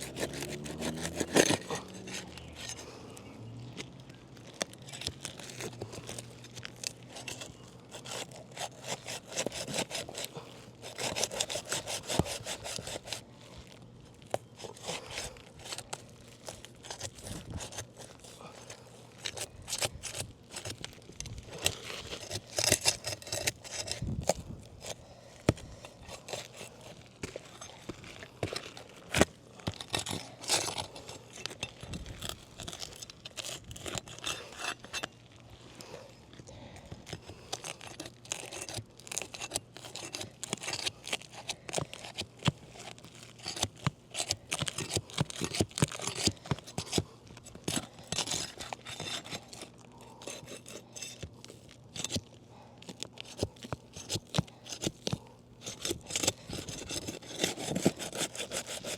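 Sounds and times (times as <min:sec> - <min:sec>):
roof shingles scraping and tearing: 0:00.0 - 0:03.1, 0:03.7 - 0:36.0, 0:37.3 - 0:58.9.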